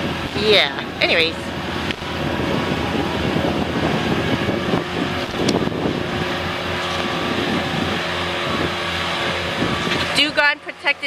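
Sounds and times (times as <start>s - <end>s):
wind on microphone: 0.0s - 10.5s
low steady hum: 0.0s - 11.0s.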